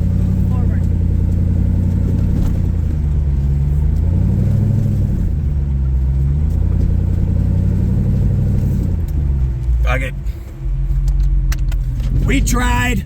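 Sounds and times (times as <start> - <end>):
engine revving under load: 0.0 - 10.6.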